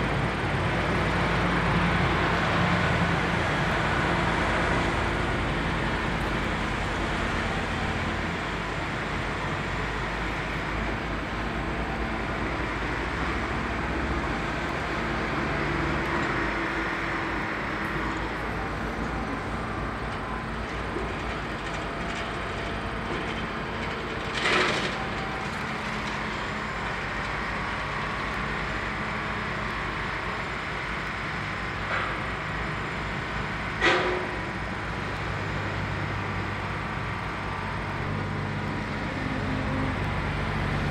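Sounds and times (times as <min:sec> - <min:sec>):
truck pulling away: 0:00.0 - 0:33.8, 0:34.4 - 0:40.9
diesel machinery rumble: 0:00.0 - 0:40.9.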